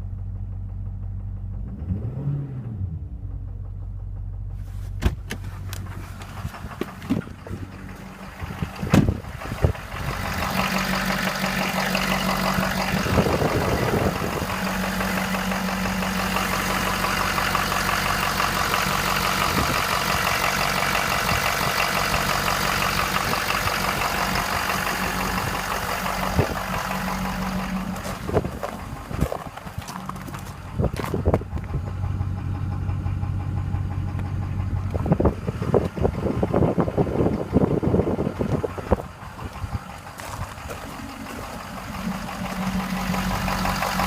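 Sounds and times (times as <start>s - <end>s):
diesel engine idling with knock: 0.0s - 44.0s.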